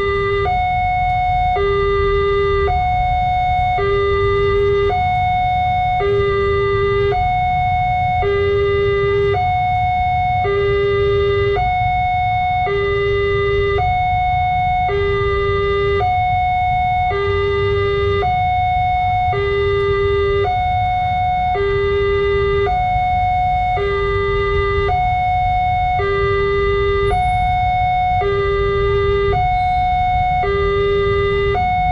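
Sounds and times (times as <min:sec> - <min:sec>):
two-tone level crossing alarm: 0:00.0 - 0:31.9.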